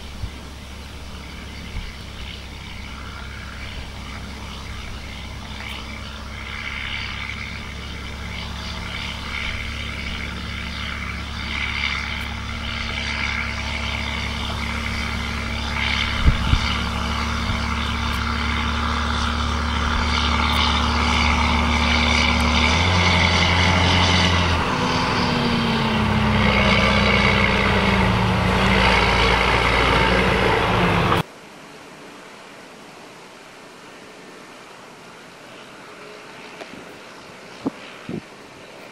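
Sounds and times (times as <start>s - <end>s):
tractor engine running: 0.0s - 31.3s.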